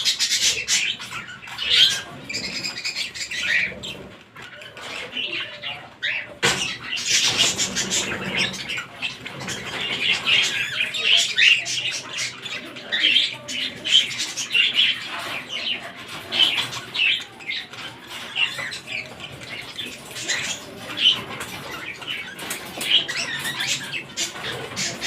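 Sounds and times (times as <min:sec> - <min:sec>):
cockatiels chirping: 0:00.0 - 0:25.0.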